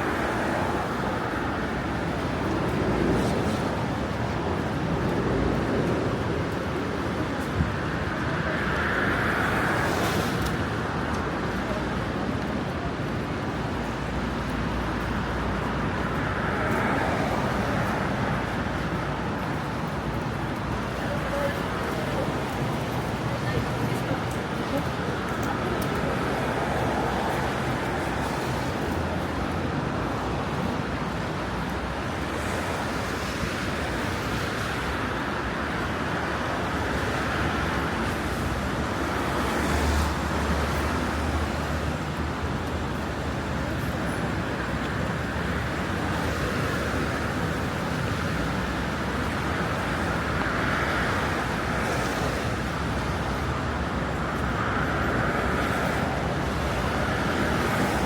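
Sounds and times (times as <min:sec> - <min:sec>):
traffic hiss on wet road: 0:00.0 - 0:58.0.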